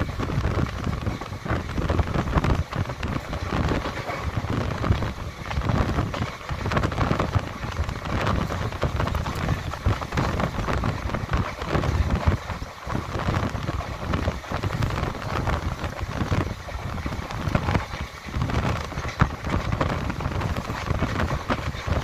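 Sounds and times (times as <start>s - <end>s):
train wheels rumbling on track: 0.0s - 22.0s
wind buffeting microphone: 0.0s - 22.0s.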